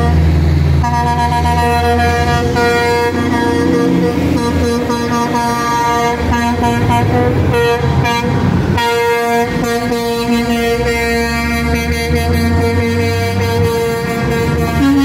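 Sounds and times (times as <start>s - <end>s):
diesel engines rumbling: 0.0s - 15.0s
truck air horn blasts: 0.0s - 15.0s.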